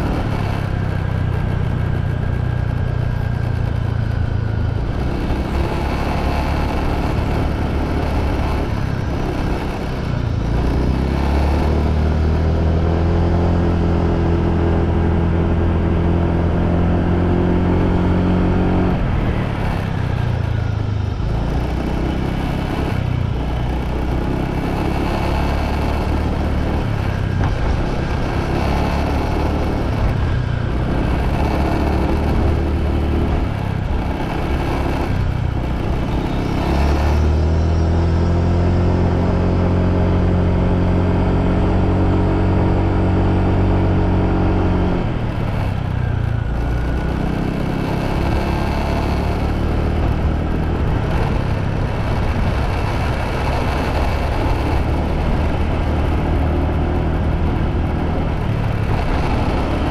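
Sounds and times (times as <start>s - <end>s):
motorbike engine running: 0.0s - 59.9s
road noise: 0.0s - 59.9s.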